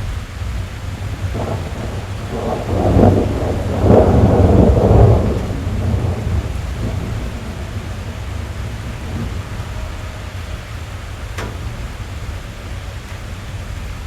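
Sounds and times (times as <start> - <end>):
rain drumming on car roof: 0.0 - 14.0
thunder rolling: 0.0 - 14.0.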